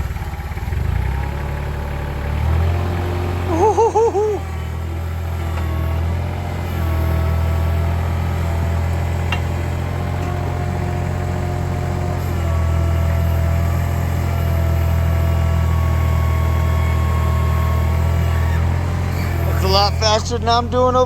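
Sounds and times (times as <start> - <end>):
digging machine engine running: 0.0 - 21.0.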